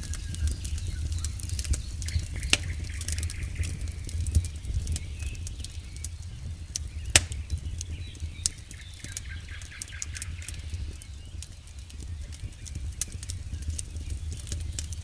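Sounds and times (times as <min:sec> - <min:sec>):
burning wood popping and snapping: 0:00.0 - 0:15.0
low rumble of campfire: 0:00.0 - 0:15.0.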